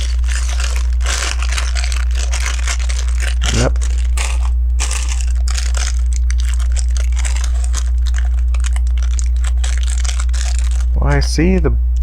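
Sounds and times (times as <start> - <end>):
plastic bricks rattling by hand: 0.0 - 11.3
steady low hum: 0.0 - 12.0.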